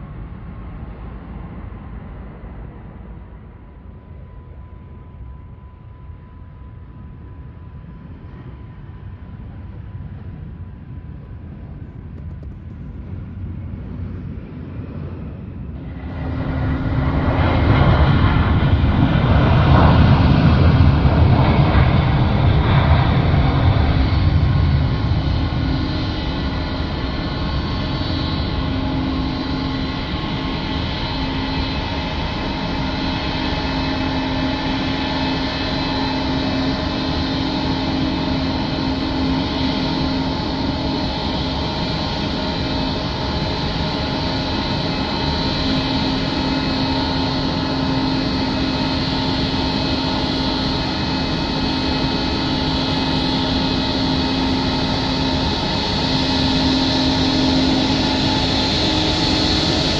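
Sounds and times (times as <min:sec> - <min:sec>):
jet engines running: 0:00.0 - 0:59.9.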